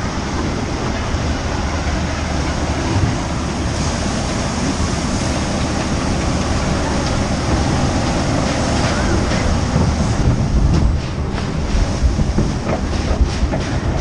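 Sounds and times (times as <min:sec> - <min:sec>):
water rushing: 0:00.0 - 0:14.0
wind buffeting microphone: 0:00.0 - 0:14.0.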